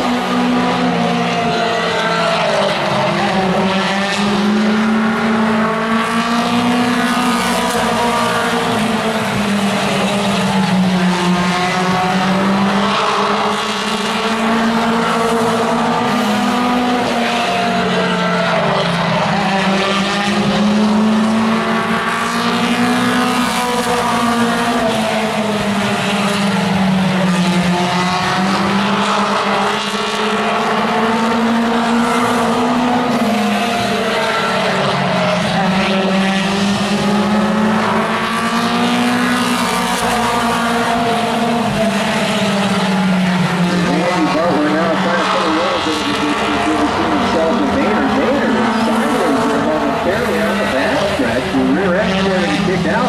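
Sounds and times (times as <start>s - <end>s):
race car engines revving: 0.0s - 53.0s
race cars passing by: 0.0s - 53.0s.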